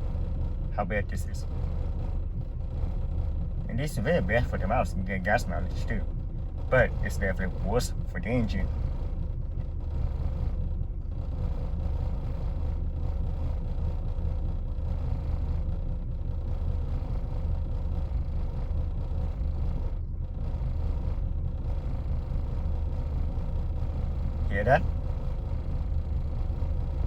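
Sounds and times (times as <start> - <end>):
car engine idling roughly: 0.0 - 27.0.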